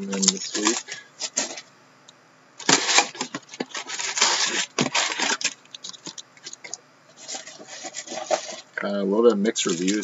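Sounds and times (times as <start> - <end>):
cardboard rustling and scraping: 0.1 - 1.7, 2.6 - 10.0.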